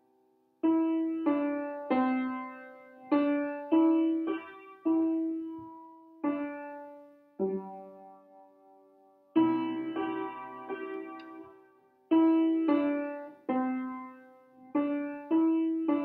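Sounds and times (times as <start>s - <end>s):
piano chords ringing: 0.6s - 8.5s, 9.3s - 16.0s.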